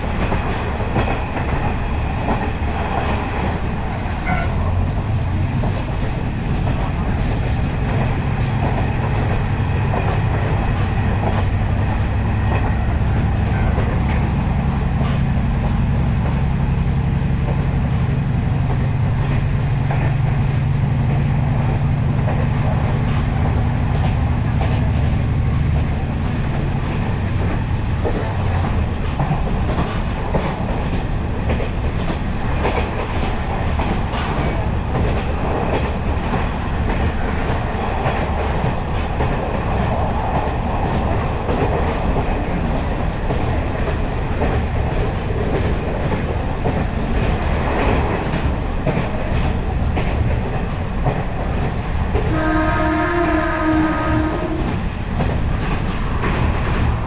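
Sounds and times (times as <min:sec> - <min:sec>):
diesel railcar engine drone: 0:00.0 - 0:57.0
train wheels clattering over rails: 0:00.0 - 0:57.0.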